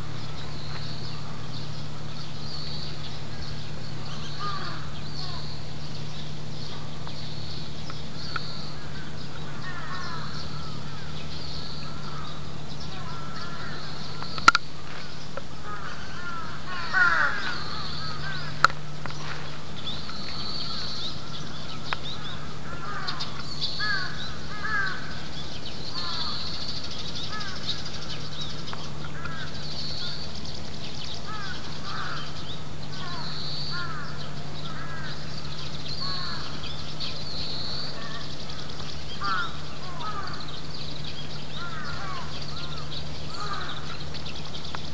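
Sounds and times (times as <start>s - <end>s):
steady low hum: 0.0s - 44.9s
crows cawing: 3.3s - 5.6s, 8.2s - 30.3s, 31.1s - 44.1s.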